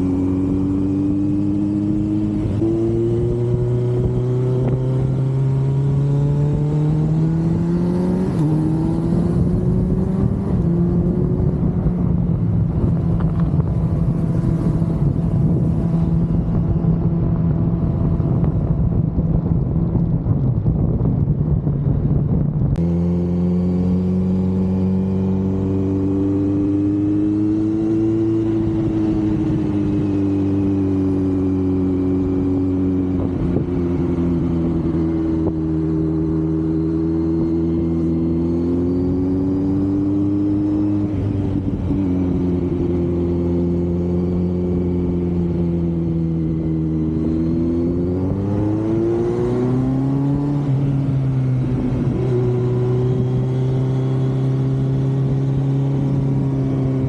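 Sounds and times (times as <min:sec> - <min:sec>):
motorcycle engine and exhaust: 0:00.0 - 0:57.0
wind noise on microphone: 0:00.0 - 0:57.0.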